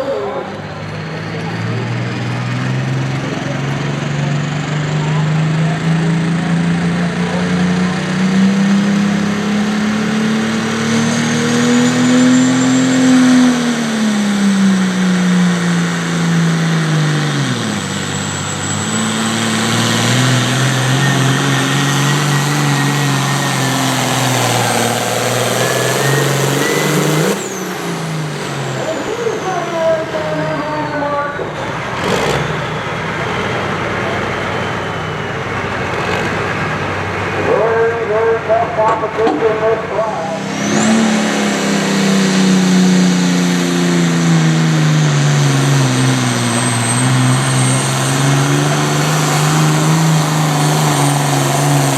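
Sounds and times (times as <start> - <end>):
vehicle engine running hard: 0.0 - 51.9.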